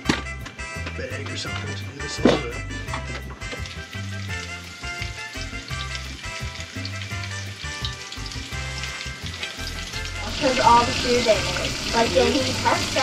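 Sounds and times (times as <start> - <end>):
background music: 0.0 - 13.0
fish sizzling in hot oil: 2.5 - 13.0.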